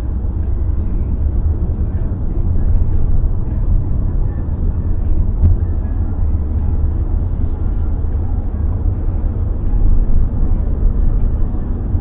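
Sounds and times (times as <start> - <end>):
car engine and tyres rumble: 0.0 - 12.0.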